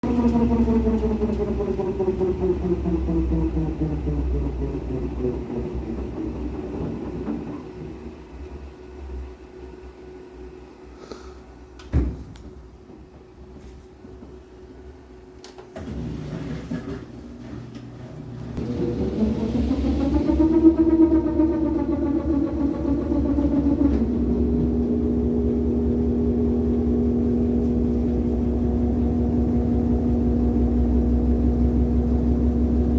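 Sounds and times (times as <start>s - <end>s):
washing machine drum rumbling: 0.0s - 9.5s, 15.8s - 32.9s
washing machine whine: 0.0s - 32.9s.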